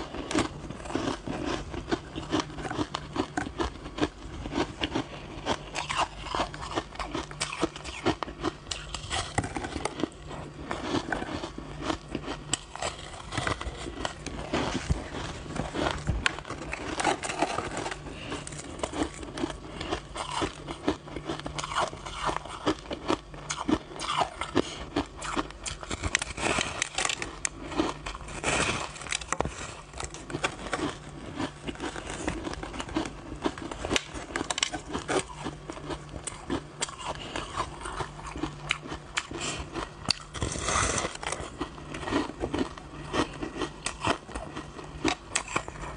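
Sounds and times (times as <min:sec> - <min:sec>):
crunching shaved ice: 0:00.0 - 0:45.9.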